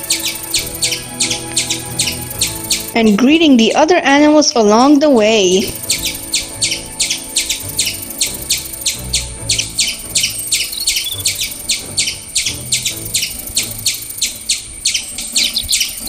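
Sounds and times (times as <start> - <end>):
cartoon birds chirping: 0.0 - 16.0.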